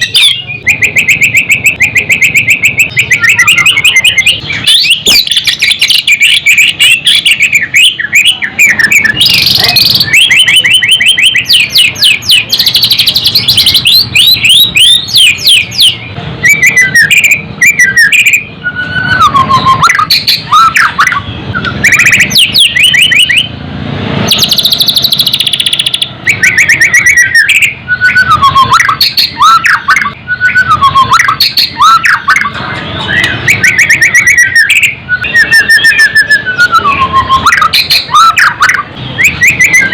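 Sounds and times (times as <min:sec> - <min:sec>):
bird singing trills and whistles: 0:00.0 - 0:23.6, 0:24.2 - 0:39.9.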